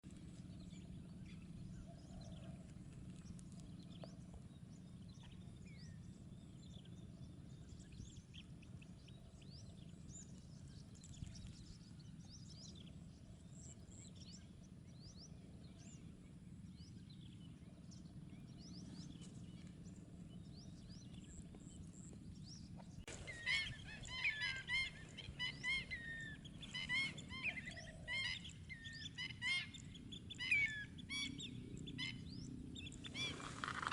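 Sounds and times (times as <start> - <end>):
low steady rumble: 0.0 - 33.9
distant birds calling: 0.1 - 33.9.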